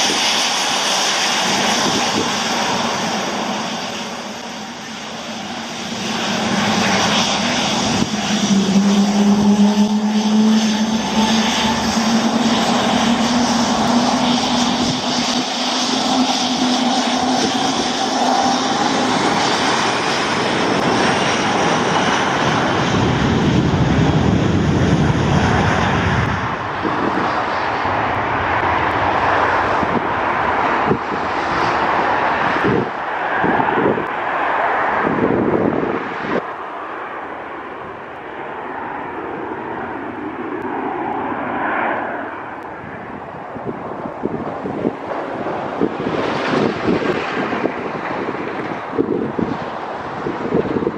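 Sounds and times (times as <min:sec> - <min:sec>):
jet engines at takeoff: 0:00.0 - 0:50.9.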